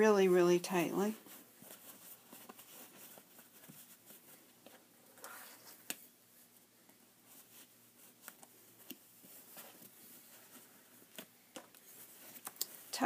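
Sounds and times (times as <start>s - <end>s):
woven strips rustling: 0.0s - 13.0s.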